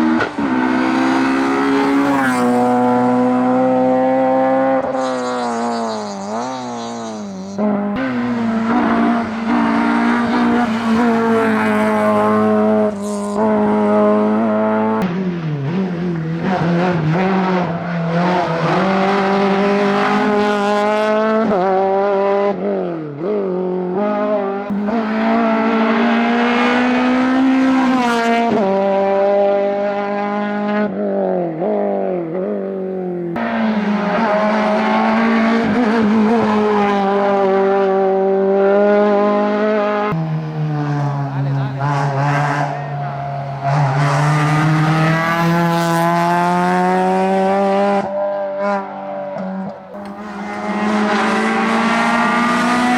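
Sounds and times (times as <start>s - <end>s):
rally car engines revving high: 0.0s - 52.9s.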